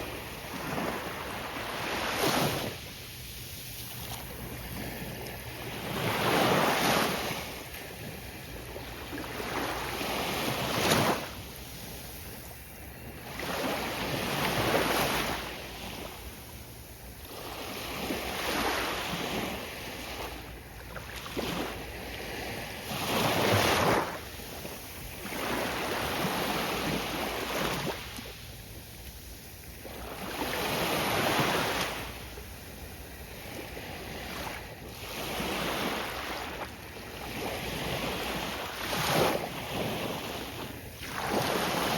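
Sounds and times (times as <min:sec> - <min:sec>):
ocean waves breaking on beach: 0:00.0 - 0:41.9.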